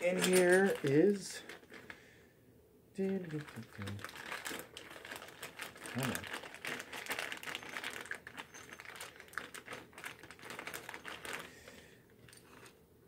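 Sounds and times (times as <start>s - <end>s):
package clicks and rustles: 0.0s - 2.0s, 3.2s - 12.8s.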